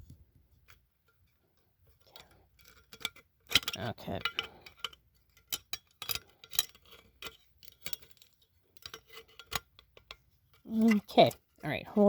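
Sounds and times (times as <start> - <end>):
small objects clicking and tapping: 0.6 - 12.0.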